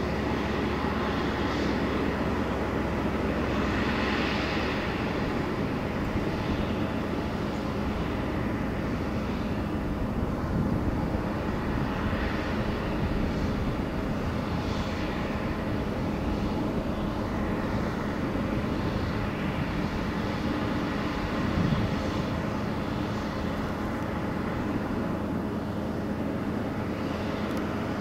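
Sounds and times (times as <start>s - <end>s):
distant engine drone: 0.0s - 28.0s.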